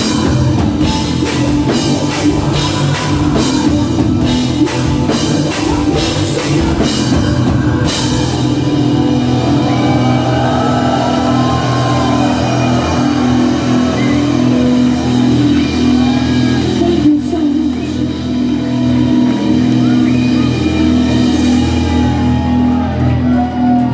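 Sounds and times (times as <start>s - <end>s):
distorted guitars: 0.0s - 23.9s.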